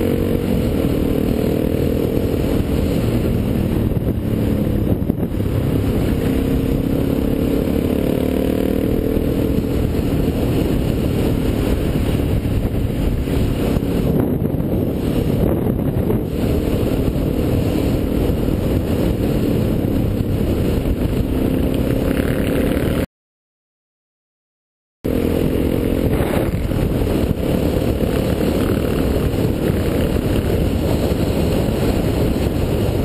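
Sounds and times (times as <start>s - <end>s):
motorcycle engine running: 0.0s - 23.1s, 25.1s - 33.0s
wind rushing over camera: 0.0s - 23.1s, 25.1s - 33.0s.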